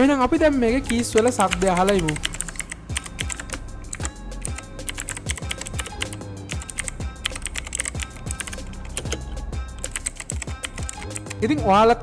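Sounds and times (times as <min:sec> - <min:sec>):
background music with beat: 0:00.0 - 0:12.0
mechanical keyboard clacking: 0:00.8 - 0:11.4.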